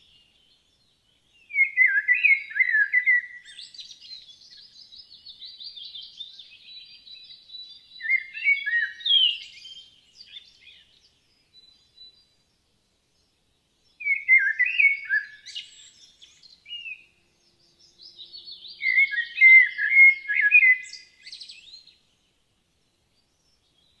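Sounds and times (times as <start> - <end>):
songbird chirping and warbling: 0.0 - 24.0.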